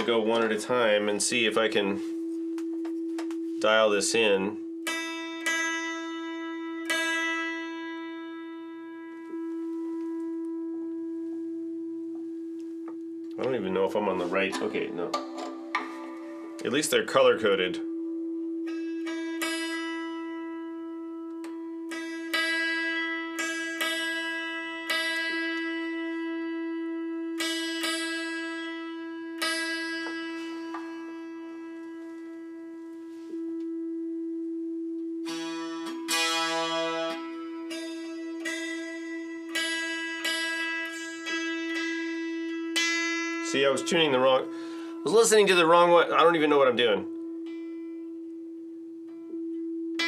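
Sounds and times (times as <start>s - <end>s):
steady reference tone: 0.0s - 50.0s
santoor notes ringing: 2.7s - 11.2s, 13.6s - 32.7s, 35.2s - 48.3s.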